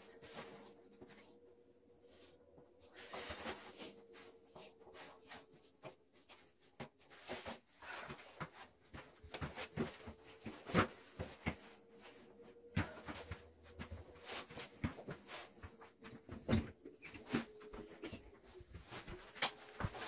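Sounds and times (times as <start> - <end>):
rustling of boots and clothing: 0.0 - 20.0.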